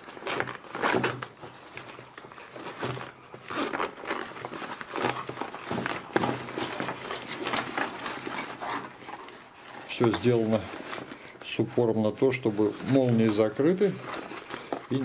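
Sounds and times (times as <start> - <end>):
nylon bag rustling and crinkling: 0.0 - 15.0.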